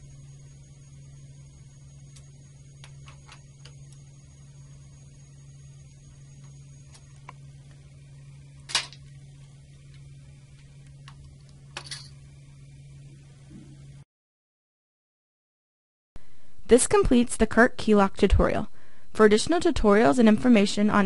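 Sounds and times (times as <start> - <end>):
steady low hum: 0.0 - 14.0, 16.2 - 21.0.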